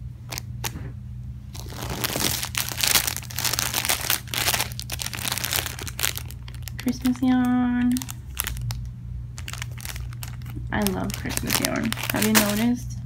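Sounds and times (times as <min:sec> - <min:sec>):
plastic crinkling and rustling: 0:01.5 - 0:12.8.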